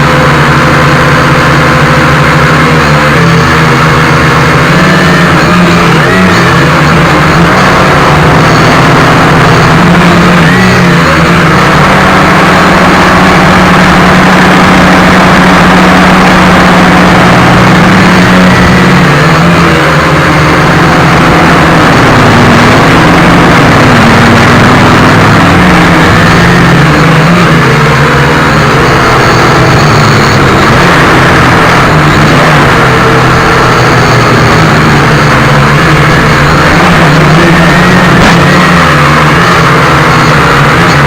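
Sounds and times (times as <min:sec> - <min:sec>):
quadcopter propellers buzzing: 0:00.0 - 0:41.0.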